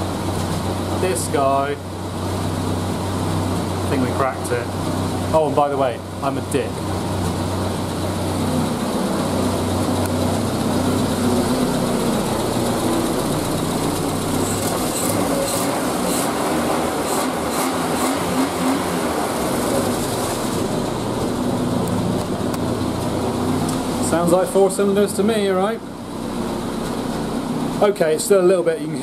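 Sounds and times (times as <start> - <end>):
car engine running with misfires: 0.0 - 29.0.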